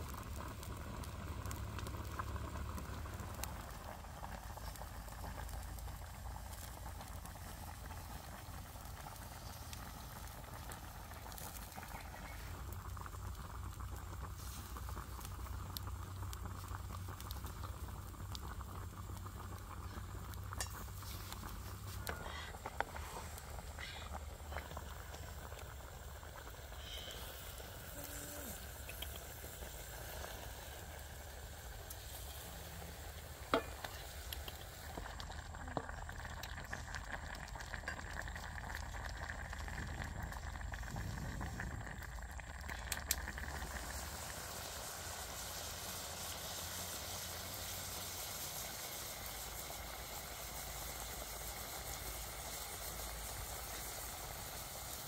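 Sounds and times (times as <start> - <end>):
chicken sizzling in a wok: 0.0 - 55.0.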